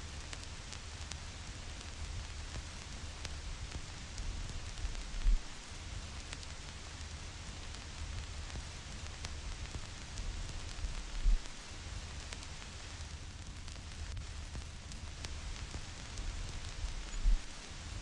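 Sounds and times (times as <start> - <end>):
vinyl record crackle and hiss: 0.0 - 18.0.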